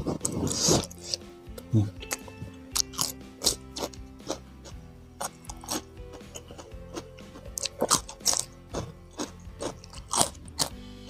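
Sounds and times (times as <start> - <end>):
cucumber crunching and chewing: 0.0 - 4.5, 5.2 - 10.8.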